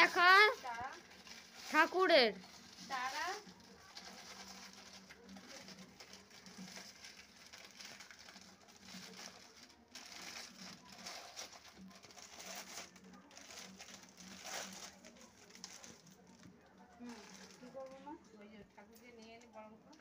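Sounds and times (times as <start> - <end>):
plastic bag crinkling: 0.0 - 18.2.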